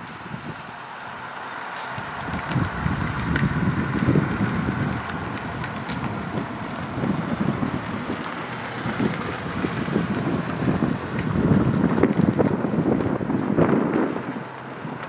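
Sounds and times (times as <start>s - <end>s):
wind noise on microphone: 0.0s - 0.7s, 1.9s - 15.0s.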